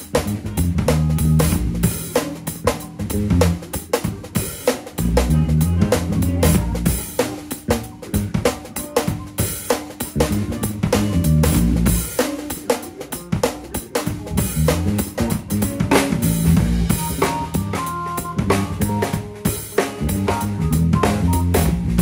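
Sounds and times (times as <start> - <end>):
band playing live: 0.0 - 22.0
cymbals: 0.0 - 22.0
held bass notes: 0.0 - 22.0
snare drum: 0.0 - 22.0.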